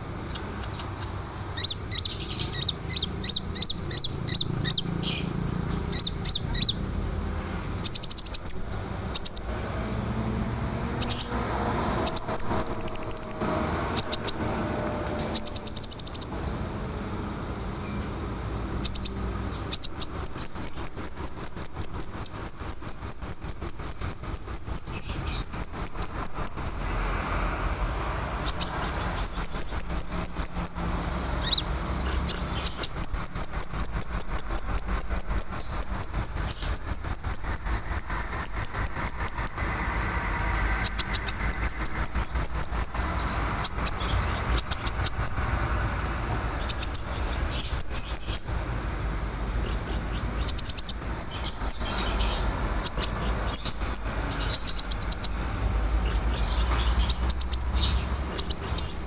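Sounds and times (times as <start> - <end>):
bird singing high sharp chirps: 0.0 - 16.4, 18.7 - 45.8, 46.4 - 59.0.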